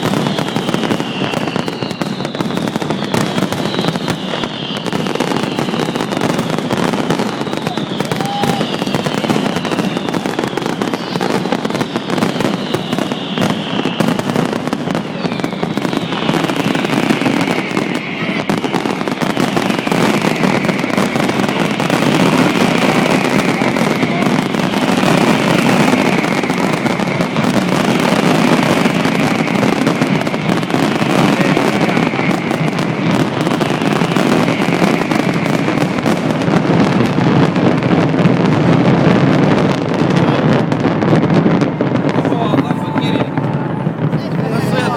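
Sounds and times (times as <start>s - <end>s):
fireworks crackling and banging: 0.0s - 44.9s
fireworks whistles falling in pitch: 0.0s - 44.9s.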